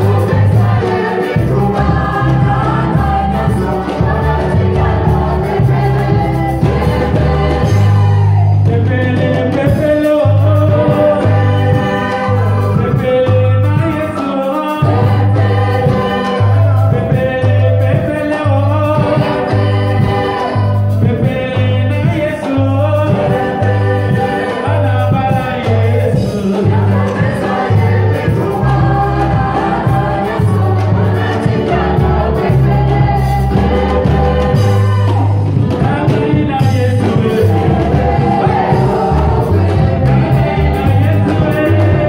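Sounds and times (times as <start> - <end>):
pulsing bass line: 0.0 - 14.1, 14.8 - 42.0
gospel choir singing: 0.0 - 42.0.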